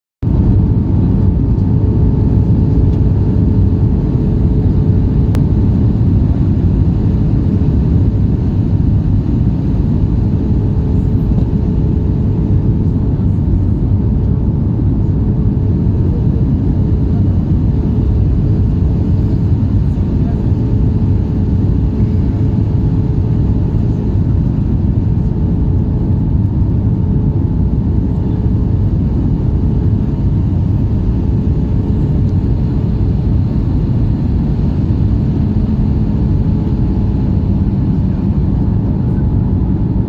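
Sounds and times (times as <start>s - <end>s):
airliner cabin engine rumble: 0.2s - 40.0s
constant hum: 0.2s - 40.0s.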